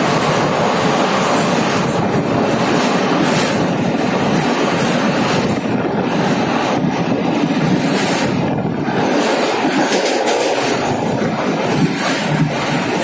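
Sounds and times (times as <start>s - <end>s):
train rumbling through tunnel: 0.0s - 13.0s.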